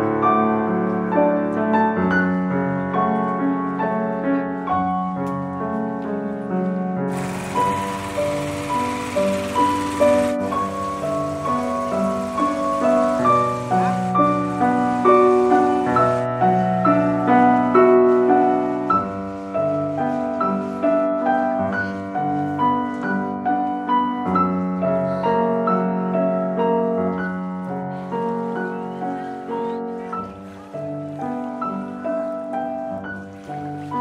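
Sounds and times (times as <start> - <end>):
solo piano piece: 0.0 - 34.0.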